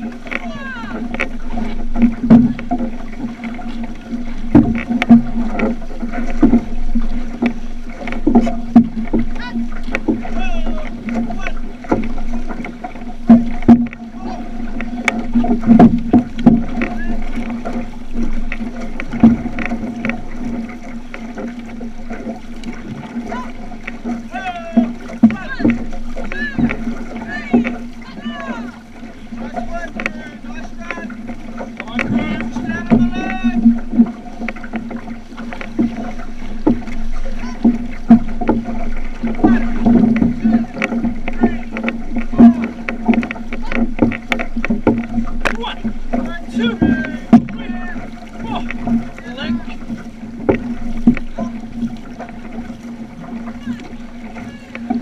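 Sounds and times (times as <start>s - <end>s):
paddle strokes splashing and knocking: 0.0s - 55.0s
water rushing along hull: 0.0s - 55.0s.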